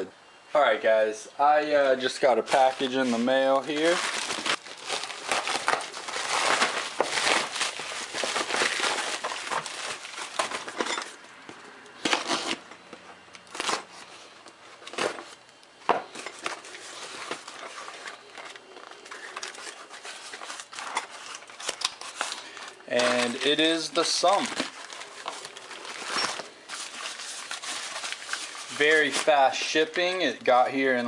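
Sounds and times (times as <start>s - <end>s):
packaging crinkling and rustling: 1.7s - 12.8s, 13.4s - 31.0s.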